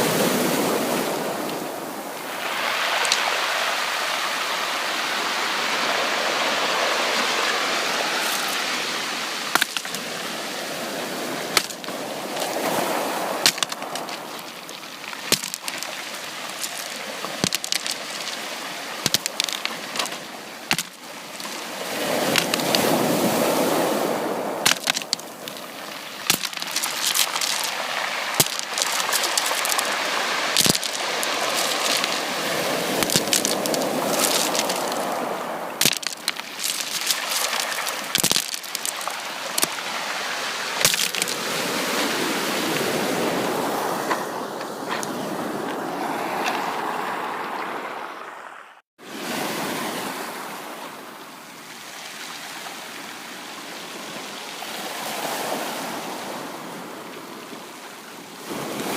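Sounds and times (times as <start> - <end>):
sea waves washing: 0.0 - 58.9.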